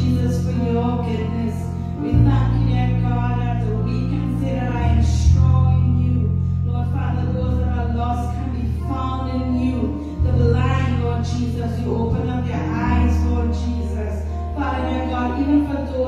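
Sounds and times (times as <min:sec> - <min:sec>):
sustained bass chords: 0:00.0 - 0:16.0
woman singing into microphone: 0:00.0 - 0:16.0.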